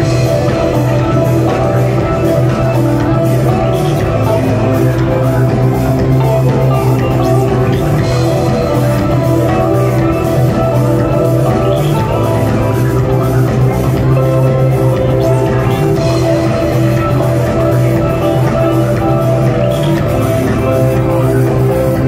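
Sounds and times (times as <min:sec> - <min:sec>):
heavy bass line: 0:00.0 - 0:22.0.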